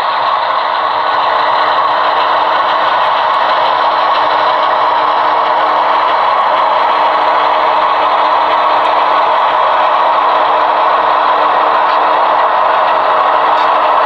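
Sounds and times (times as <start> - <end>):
model locomotive diesel engine: 0.0 - 14.0.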